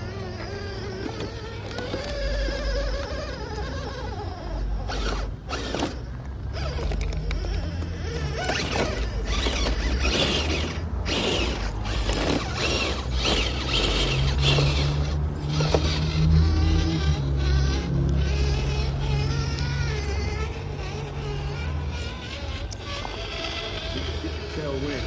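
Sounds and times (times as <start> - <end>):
toy truck gears clicking: 0.0 - 25.0.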